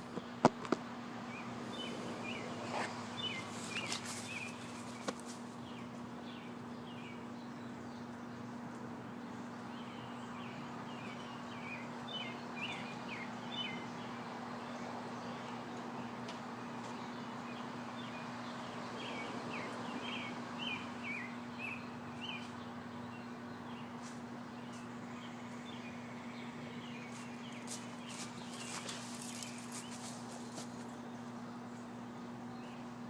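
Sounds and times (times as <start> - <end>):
bird chirping song: 1.2 - 33.0.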